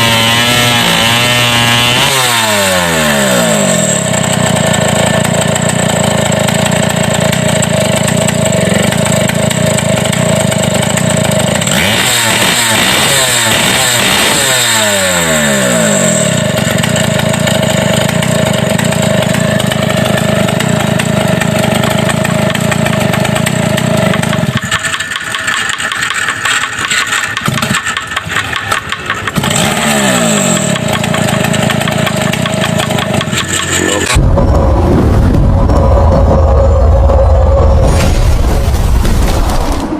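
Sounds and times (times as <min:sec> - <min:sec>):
chainsaw engine revving: 0:00.0 - 0:38.5.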